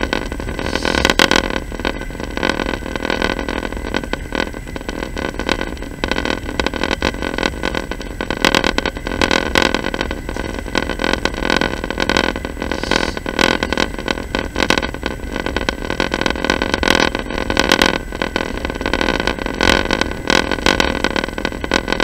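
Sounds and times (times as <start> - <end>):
steady high whine: 0.0 - 22.0.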